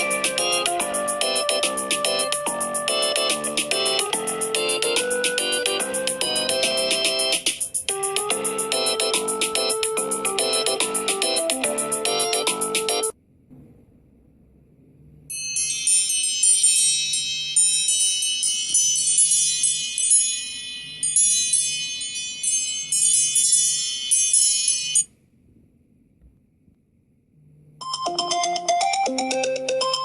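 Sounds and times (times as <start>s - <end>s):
phone ringtone high chiming notes: 0.0s - 13.1s, 15.3s - 25.1s, 27.8s - 30.0s.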